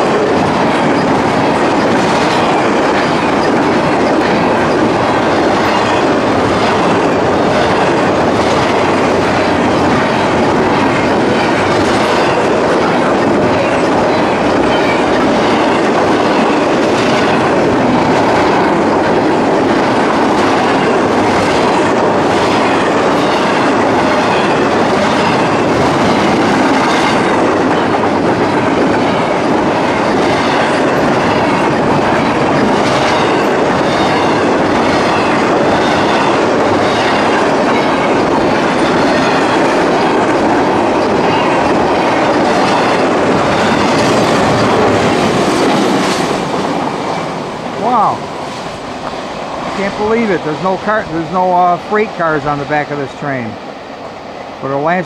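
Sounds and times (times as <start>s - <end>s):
clickety-clack of rail joints: 0.0s - 55.0s
train wheels rumbling on rail: 0.0s - 55.0s.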